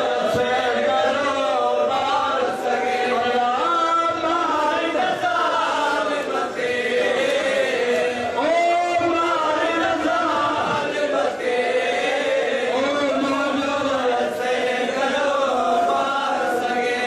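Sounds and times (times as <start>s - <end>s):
man chanting a lament: 0.0s - 17.0s
voices singing in chorus: 0.0s - 17.0s.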